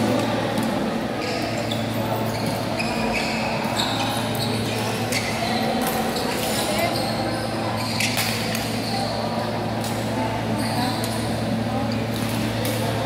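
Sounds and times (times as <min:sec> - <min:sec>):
sneakers squeaking on court floor: 0:00.0 - 0:13.0.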